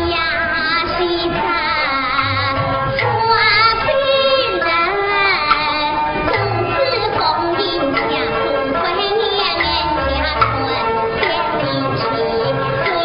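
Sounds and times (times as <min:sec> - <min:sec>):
opera band accompaniment: 0:00.0 - 0:13.0
person singing opera: 0:00.0 - 0:13.0.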